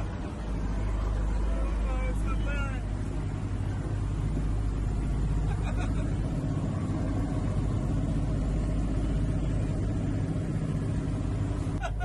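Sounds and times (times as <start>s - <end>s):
propeller engines droning in cabin: 0.0s - 12.0s.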